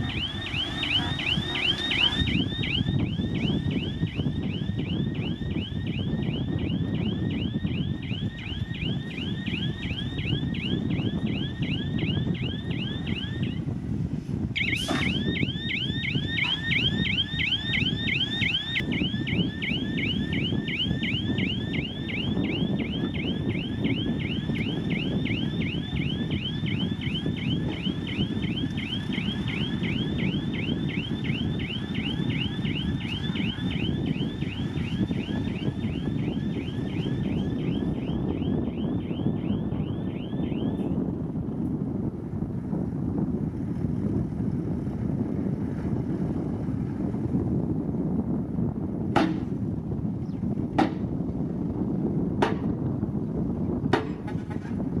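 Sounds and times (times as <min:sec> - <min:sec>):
diesel machinery running: 0:00.0 - 0:47.3.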